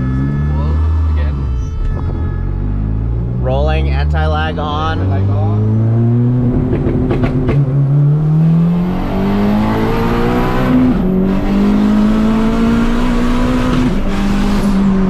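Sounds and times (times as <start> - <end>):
turbocharged engine accelerating: 0.0 - 15.0.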